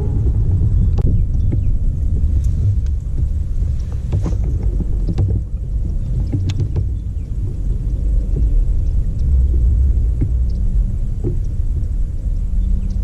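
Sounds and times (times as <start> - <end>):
low rumble of water: 0.0 - 13.0
wind noise: 0.0 - 13.0.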